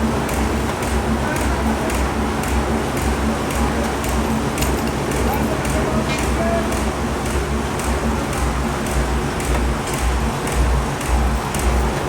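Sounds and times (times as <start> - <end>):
continuous machine noise: 0.0 - 12.0.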